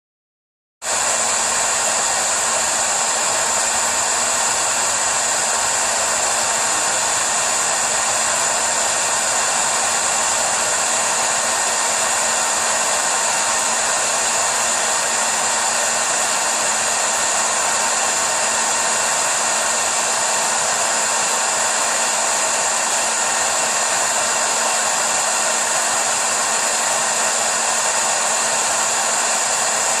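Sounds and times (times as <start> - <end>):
hair dryer blowing: 0.8 - 30.0.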